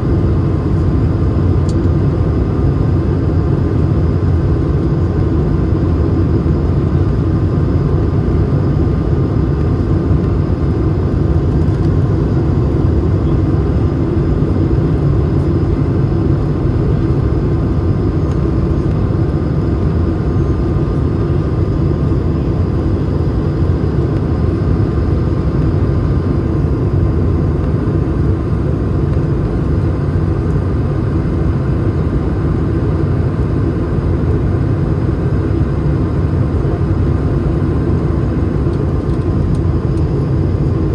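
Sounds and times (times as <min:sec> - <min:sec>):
airplane cabin engine rumble: 0:00.0 - 0:40.9
faint steady whine: 0:00.0 - 0:40.9.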